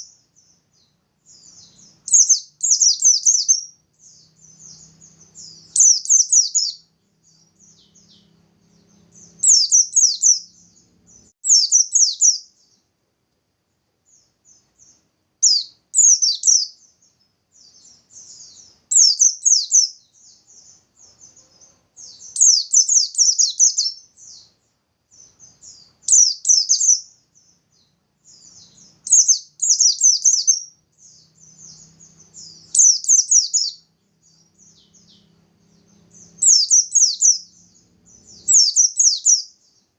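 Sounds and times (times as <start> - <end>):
bird singing high trilled song: 0.0 - 12.9, 14.1 - 39.9.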